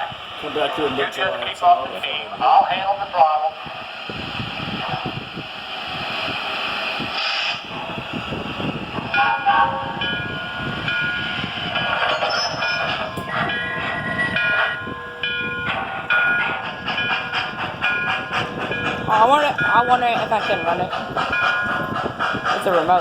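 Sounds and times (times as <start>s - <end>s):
model train wheels rumbling on track: 0.0s - 23.0s
electronic locomotive toots: 2.6s - 23.0s.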